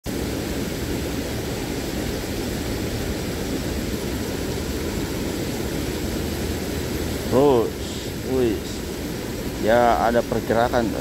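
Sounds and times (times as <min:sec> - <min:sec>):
water rushing over waterfall: 0:00.1 - 0:11.0.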